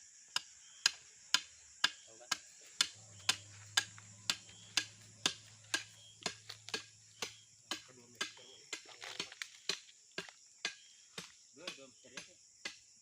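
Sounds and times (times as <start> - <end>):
sharp regular clicks: 0.3 - 11.3.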